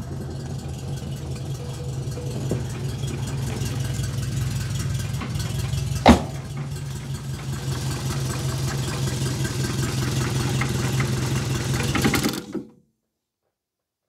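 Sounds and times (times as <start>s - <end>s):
car engine idling and stalling: 0.0s - 12.7s.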